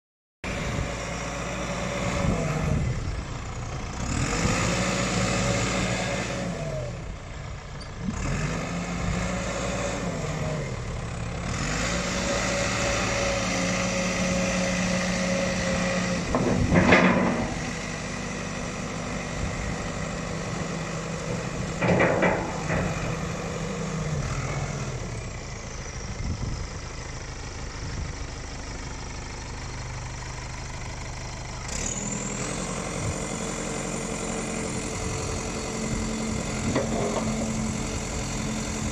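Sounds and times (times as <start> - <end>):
diesel engine revving: 0.4 - 38.9.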